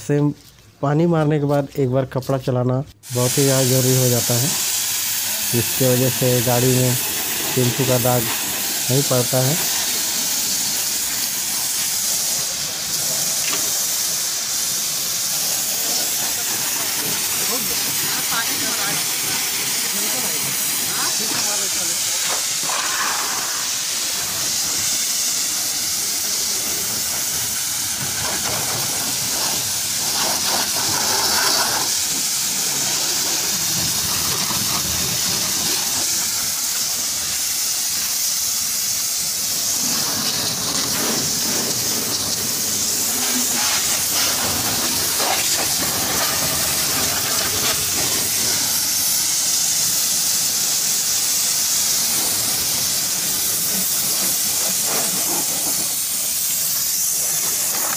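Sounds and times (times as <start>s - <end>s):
hose nozzle spray hissing: 2.4s - 57.9s
water spattering on car panels: 3.8s - 57.9s.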